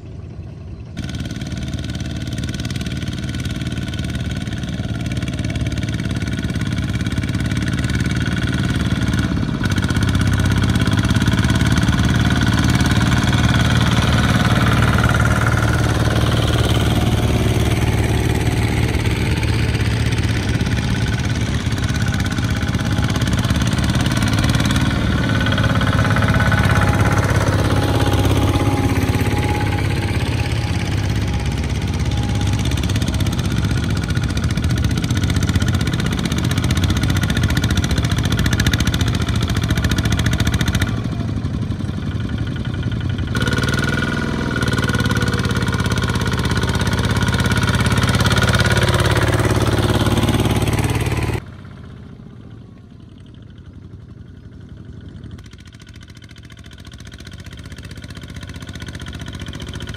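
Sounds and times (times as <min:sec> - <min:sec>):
diesel tractor engines chugging: 0:00.0 - 0:59.9.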